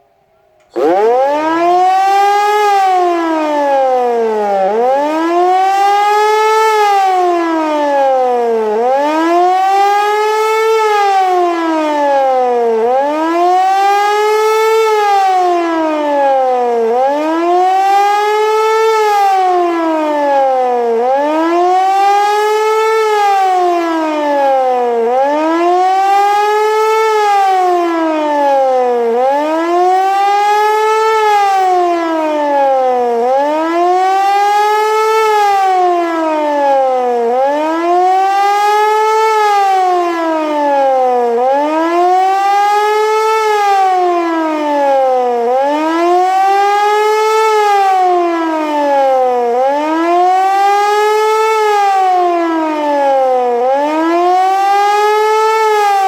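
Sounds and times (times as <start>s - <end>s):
siren wailing: 0.6s - 56.0s.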